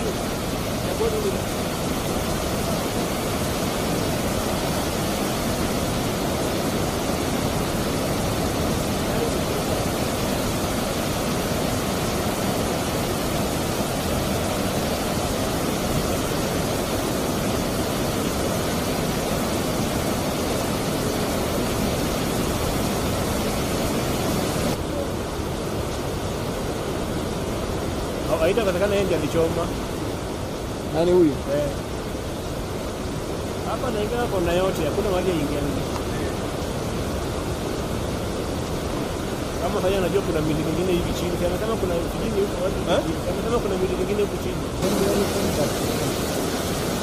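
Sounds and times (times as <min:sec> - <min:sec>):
river water rushing over rocks: 0:00.0 - 0:47.0.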